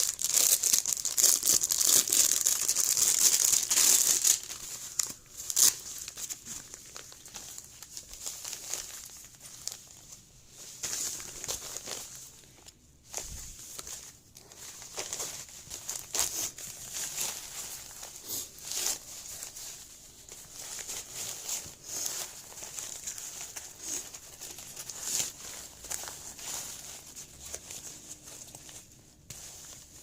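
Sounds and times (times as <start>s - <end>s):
packaging crinkling and rustling: 0.0s - 30.0s.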